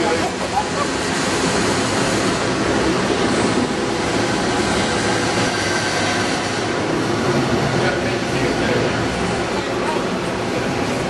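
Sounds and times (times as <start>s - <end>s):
train rumbling on elevated track: 0.0s - 11.0s.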